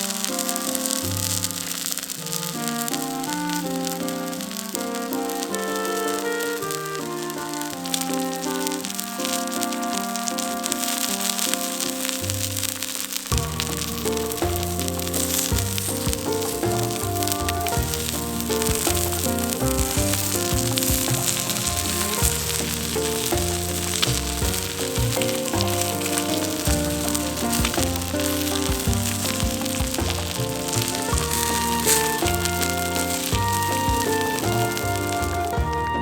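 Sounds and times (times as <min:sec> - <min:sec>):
steak sizzling on a grill: 0:00.0 - 0:35.9
background music: 0:00.0 - 0:36.0.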